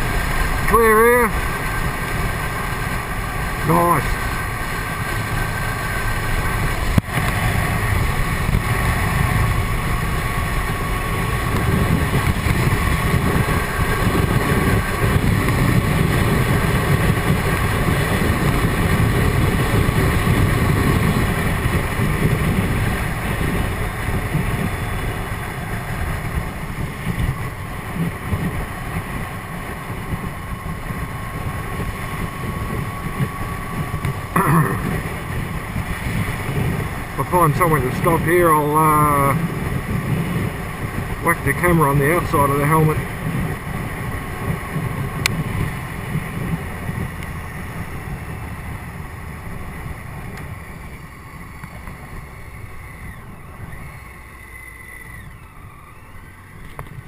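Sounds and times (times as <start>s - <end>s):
faint motorcycle engine: 0.0s - 57.0s
wind buffeting helmet: 0.0s - 57.0s.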